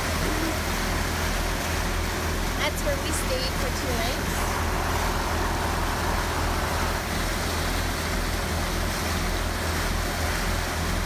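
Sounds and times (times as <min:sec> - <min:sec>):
diesel engines humming: 0:00.0 - 0:11.0
water rushing past hull: 0:00.0 - 0:11.0.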